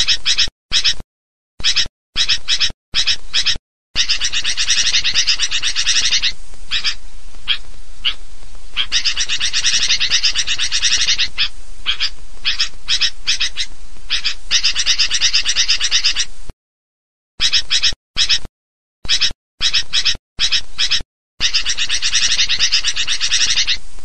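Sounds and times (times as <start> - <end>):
bird chattering calls: 0.0 - 1.0, 1.6 - 8.2, 8.8 - 16.3, 17.4 - 23.8.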